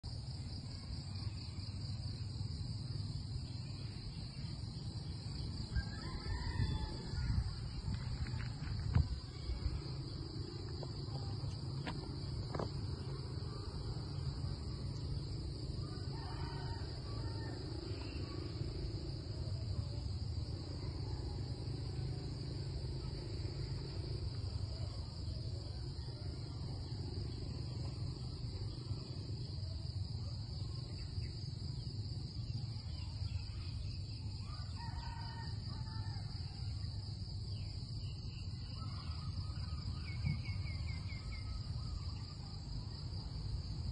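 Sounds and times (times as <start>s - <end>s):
insect chorus drone: 0.0s - 43.9s.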